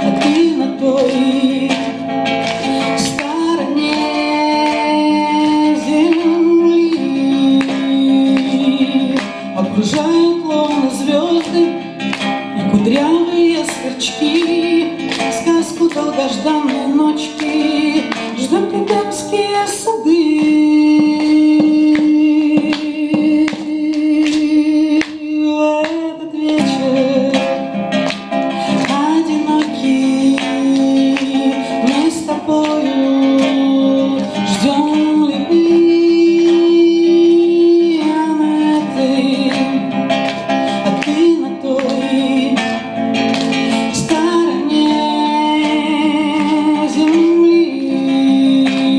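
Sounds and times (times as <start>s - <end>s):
strummed classical guitar: 0.0s - 48.9s
woman singing: 0.0s - 48.9s.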